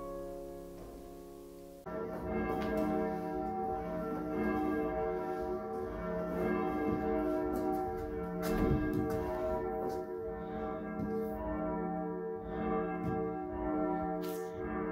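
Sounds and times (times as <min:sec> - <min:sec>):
church bells ringing: 0:00.0 - 0:14.9.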